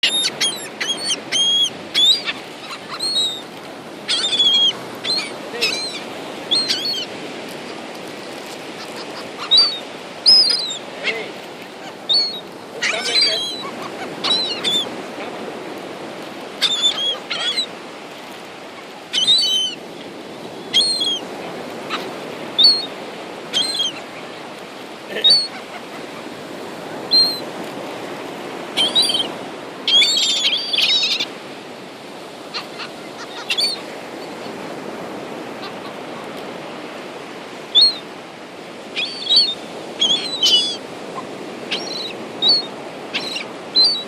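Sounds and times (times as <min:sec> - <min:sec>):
gulls calling: 0:00.0 - 0:44.0.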